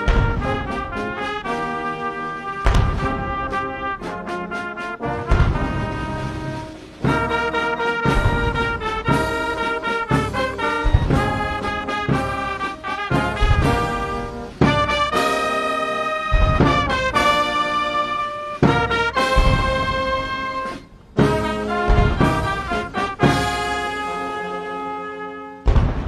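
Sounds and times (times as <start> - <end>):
deep booms: 0.0 - 23.8, 25.6 - 26.0
military brass band playing chords: 0.0 - 25.9.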